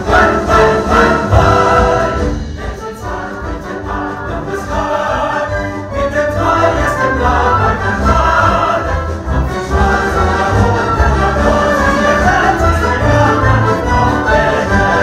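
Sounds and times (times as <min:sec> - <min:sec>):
male ensemble singing: 0:00.0 - 0:15.0
theatre orchestra: 0:00.0 - 0:15.0.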